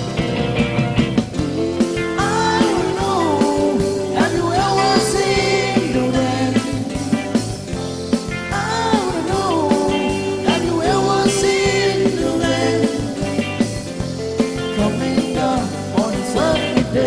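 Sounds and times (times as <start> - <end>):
band playing dance music: 0.0 - 17.0.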